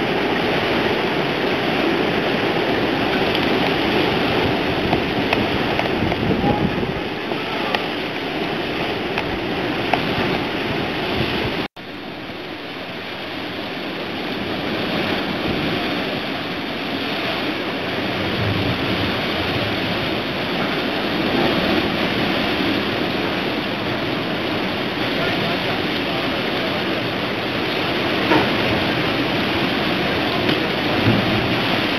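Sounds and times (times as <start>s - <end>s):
rough sea breaking: 0.0s - 31.9s
wind: 0.0s - 31.9s.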